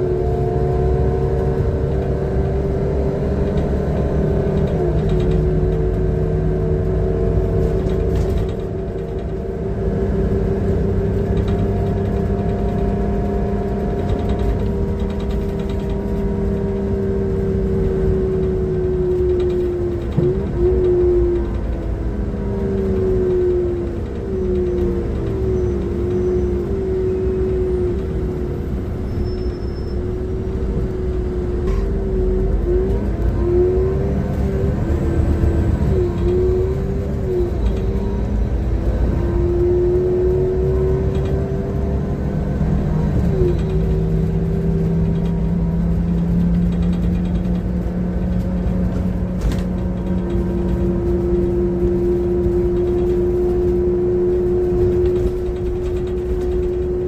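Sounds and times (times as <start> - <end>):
bus engine rumble: 0.0 - 57.0
loud drivetrain whine: 0.0 - 57.0.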